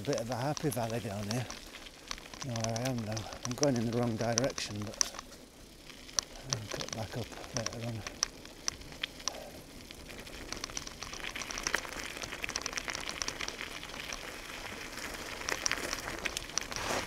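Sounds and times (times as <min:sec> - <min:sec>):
bicycle tyres rolling on gravel: 0:00.0 - 0:17.0.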